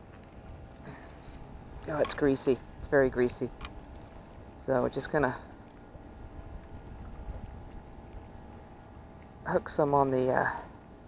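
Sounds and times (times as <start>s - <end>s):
wind rumble on microphone: 0.0s - 10.3s.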